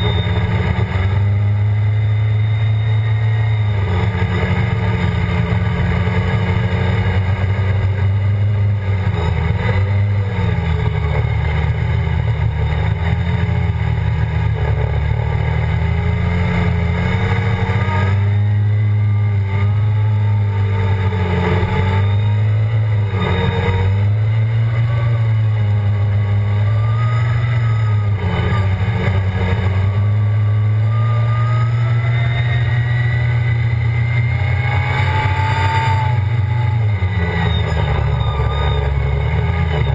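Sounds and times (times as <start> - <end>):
atv engine running hard: 0.0 - 39.9
wind and tyre noise: 0.0 - 39.9.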